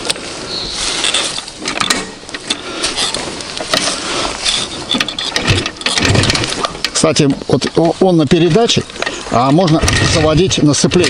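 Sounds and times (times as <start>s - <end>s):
crackling clicks: 1.0s - 11.0s
motorcycle engine clattering: 1.6s - 11.0s.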